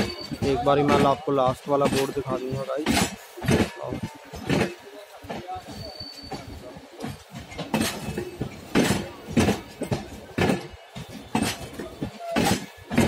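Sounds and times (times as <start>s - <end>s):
train wheels clacking over rail joints: 0.0s - 13.0s.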